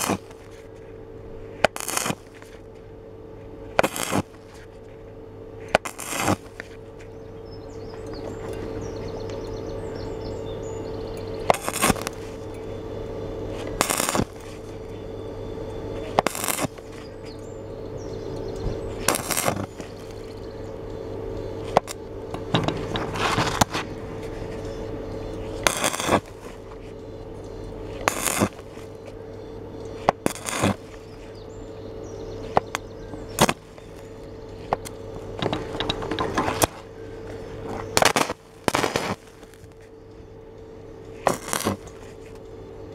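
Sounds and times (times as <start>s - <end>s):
welding arc crackling: 0.0s - 4.9s, 5.5s - 7.4s, 10.8s - 42.9s
steady hum: 0.0s - 42.9s.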